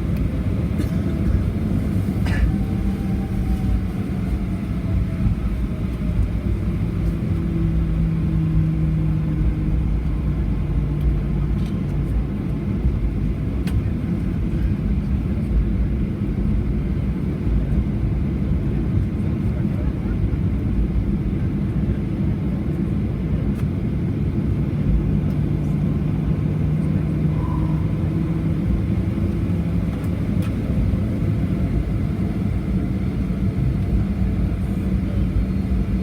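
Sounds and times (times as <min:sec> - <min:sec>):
airplane cabin engine rumble: 0:00.0 - 0:36.0.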